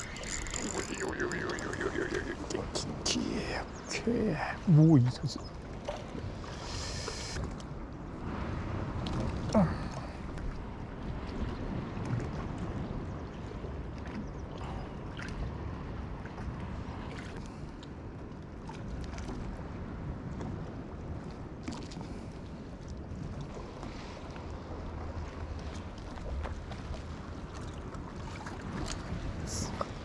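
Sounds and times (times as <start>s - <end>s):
wind rumble on microphone: 0.0s - 4.6s, 5.4s - 30.0s
water: 0.0s - 30.0s.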